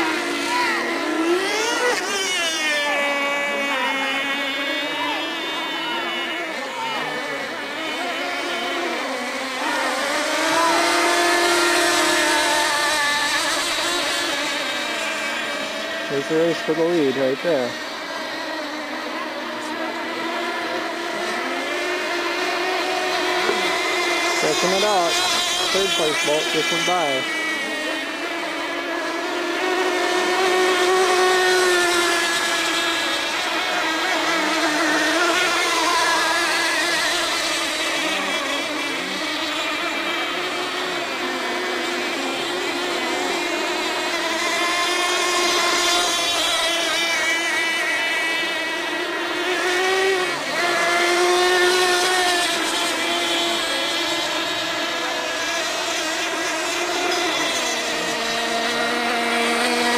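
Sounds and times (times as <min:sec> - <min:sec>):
racing boat engines whining: 0:00.0 - 0:59.9.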